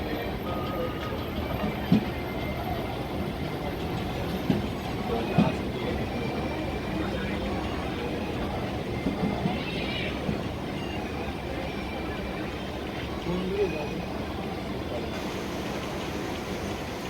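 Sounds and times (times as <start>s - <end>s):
train carriages rumbling: 0.0s - 17.0s.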